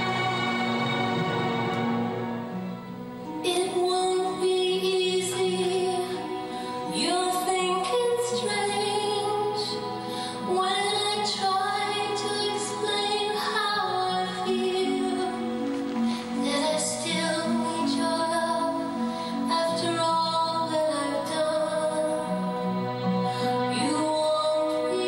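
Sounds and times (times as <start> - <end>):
musical accompaniment: 0.0 - 25.0
woman singing: 3.3 - 25.0.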